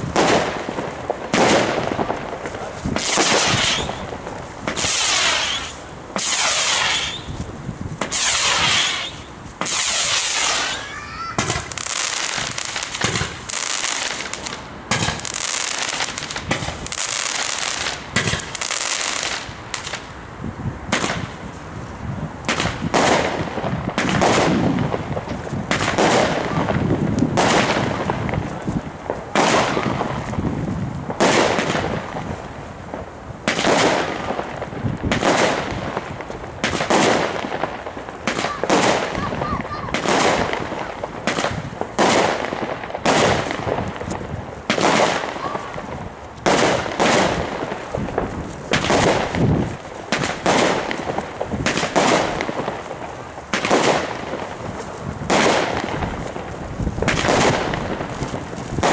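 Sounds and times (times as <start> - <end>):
firework bangs: 0.0 - 58.9
high hiss of sparkling firework: 0.0 - 58.9.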